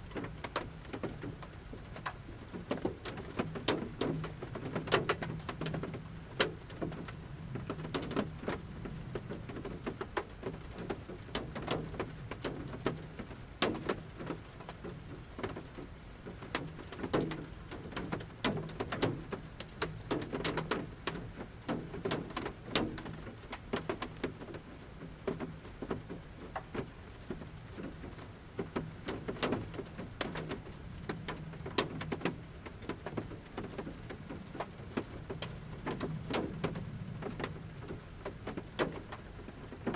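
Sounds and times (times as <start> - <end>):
raindrops tapping on van roof: 0.0 - 39.9.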